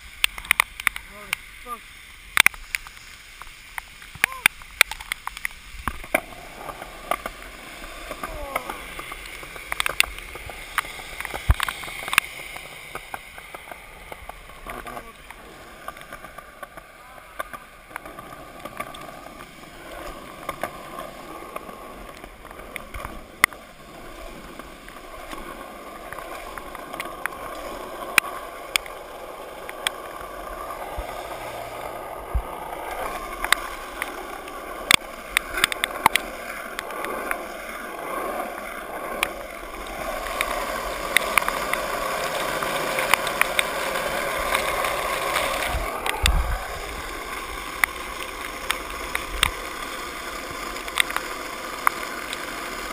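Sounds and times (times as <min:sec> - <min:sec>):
skateboard wheels on wet asphalt: 0:00.0 - 0:52.9
sharp clicks under wheels: 0:00.2 - 0:01.1, 0:02.3 - 0:52.9.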